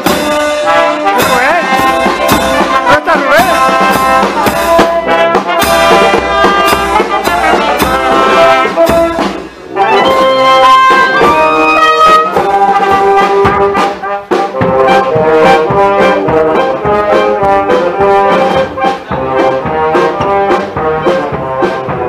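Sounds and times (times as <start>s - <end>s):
street brass band playing: 0.0s - 22.0s.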